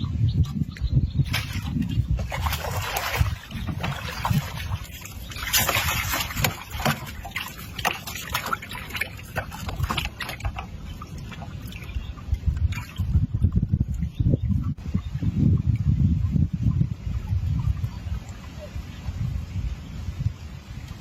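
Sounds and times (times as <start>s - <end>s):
water splashing against boat: 0.0s - 19.6s.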